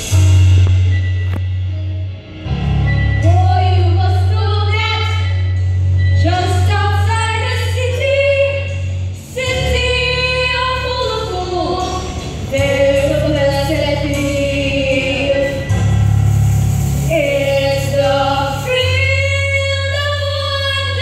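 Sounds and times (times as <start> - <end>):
backing track with bass line: 0.0 - 21.0.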